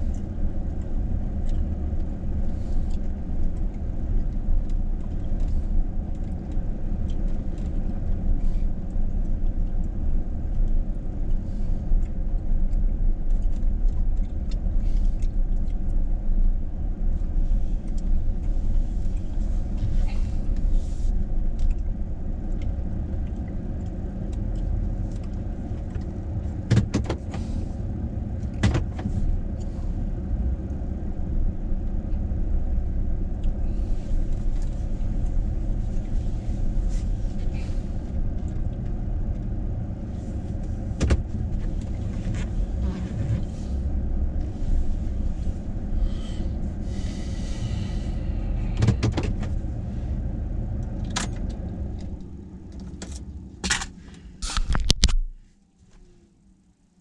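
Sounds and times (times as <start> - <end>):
engine rumbling: 0.0 - 57.0.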